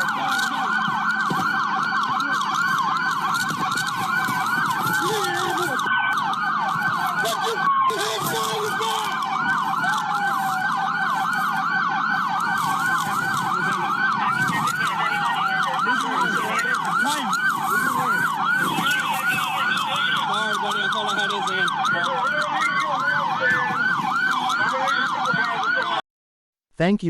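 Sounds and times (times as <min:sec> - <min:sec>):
police sirens yelping: 0:00.0 - 0:26.0
wailing siren glides: 0:00.0 - 0:26.0.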